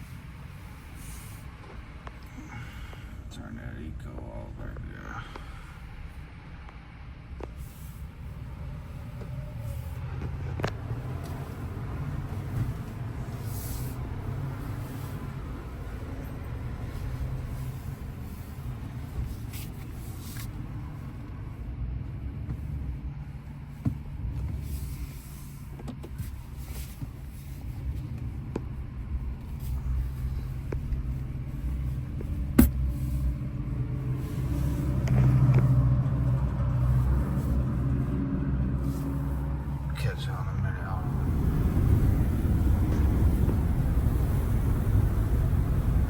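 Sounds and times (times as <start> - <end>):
road noise: 0.0 - 46.0
truck engine hum: 0.0 - 46.0.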